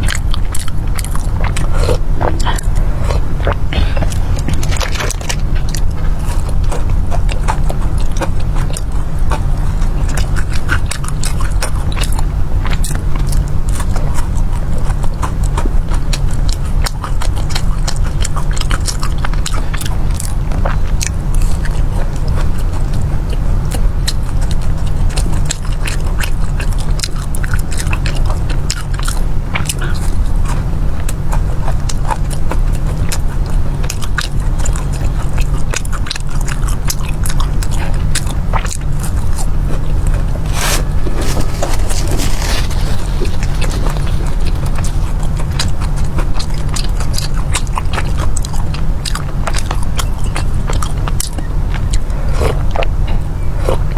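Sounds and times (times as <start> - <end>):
crisp chewing and biting: 0.0 - 53.9
steady low rumble: 0.0 - 53.9.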